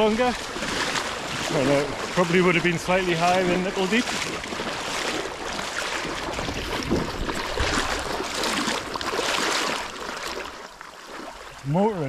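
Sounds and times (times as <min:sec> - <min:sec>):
water sloshing around wading legs: 0:00.0 - 0:11.8.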